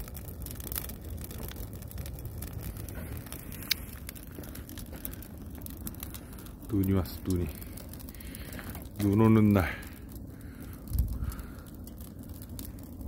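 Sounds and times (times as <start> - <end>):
fire rumbling: 0.0 - 13.0
firewood crackling and popping: 0.0 - 13.0.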